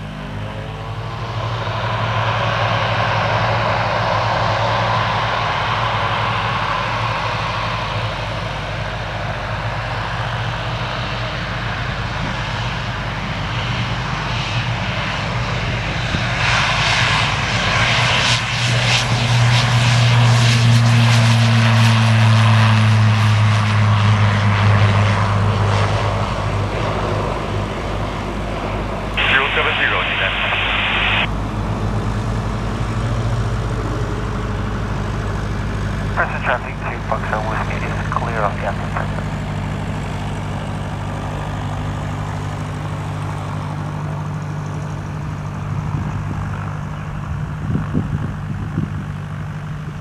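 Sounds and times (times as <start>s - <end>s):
turboprop engine drone: 0.0s - 50.0s.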